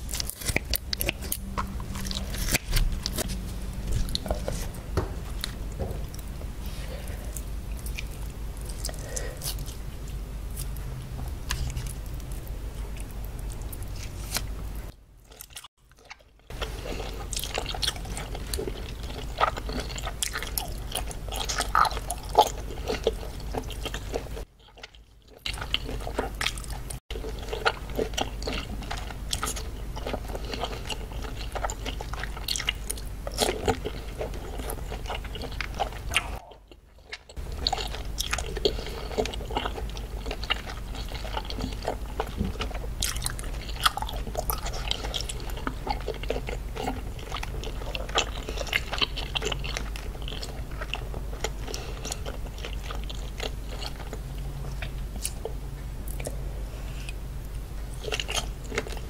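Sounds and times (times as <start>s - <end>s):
wet chewing with mouth clicks: 0.0s - 14.6s, 15.3s - 57.2s.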